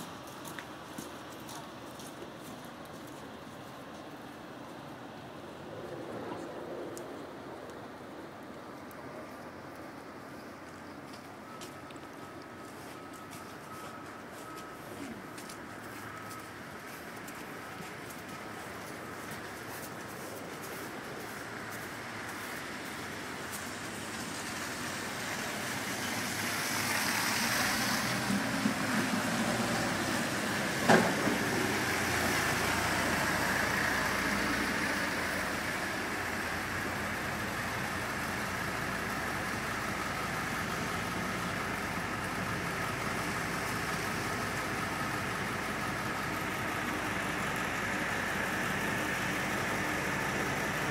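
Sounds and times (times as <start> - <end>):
vehicle running noise: 0.0 - 50.9.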